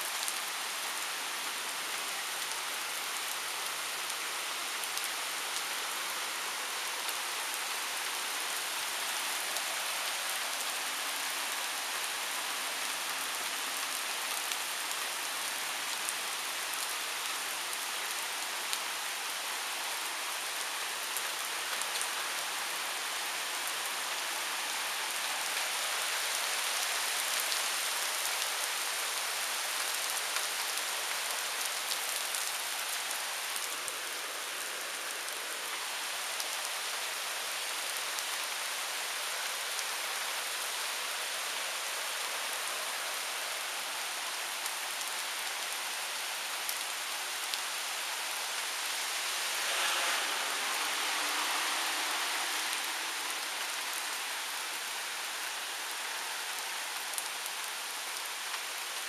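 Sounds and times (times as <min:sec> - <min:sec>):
heavy rain on pavement and trees: 0:00.0 - 0:59.0.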